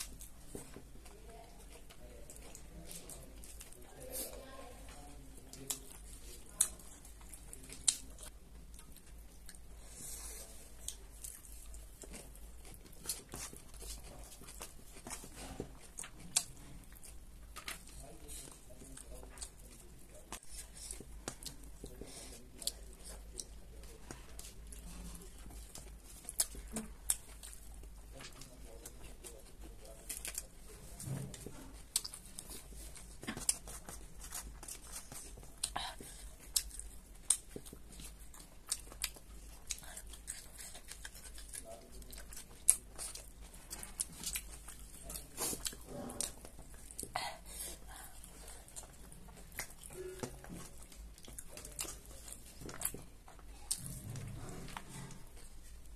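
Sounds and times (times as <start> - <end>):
person chewing crunchy salad: 0.0 - 55.9.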